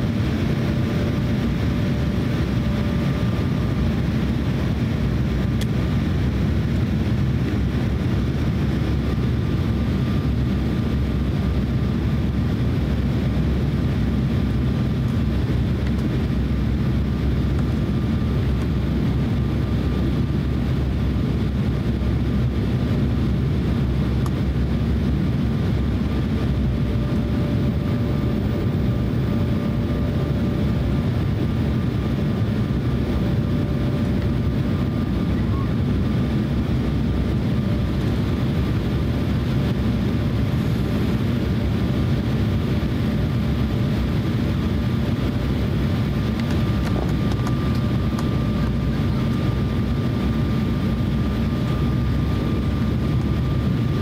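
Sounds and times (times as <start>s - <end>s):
airliner cabin rumble: 0.0s - 54.0s
faint steady whine: 0.0s - 54.0s.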